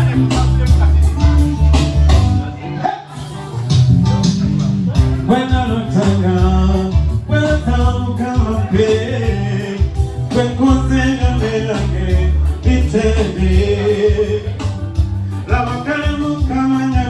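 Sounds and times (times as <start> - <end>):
band with guitar and heavy bass: 0.0 - 17.0
person singing: 0.0 - 17.0.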